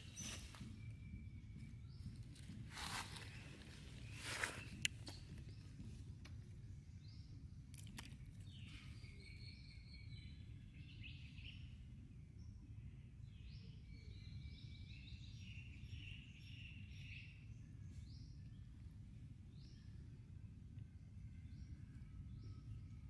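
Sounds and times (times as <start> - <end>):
birds chirping: 0.0 - 18.8
low outdoor rumble: 0.0 - 23.0.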